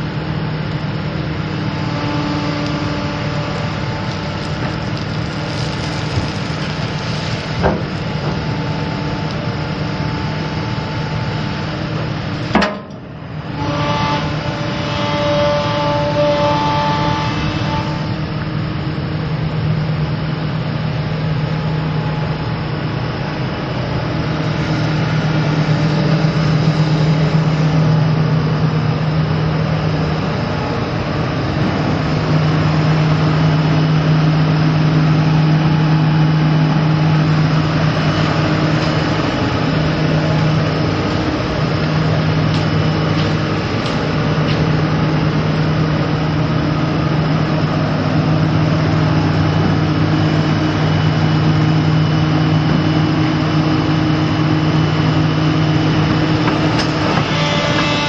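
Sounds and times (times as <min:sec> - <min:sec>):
excavator diesel engine humming: 0:00.0 - 0:58.0.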